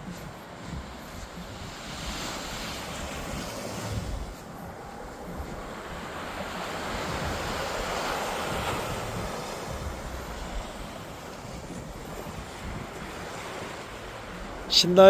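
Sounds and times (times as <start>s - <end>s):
surf washing onto shore: 0.0s - 15.0s
wind buffeting microphone: 0.0s - 15.0s.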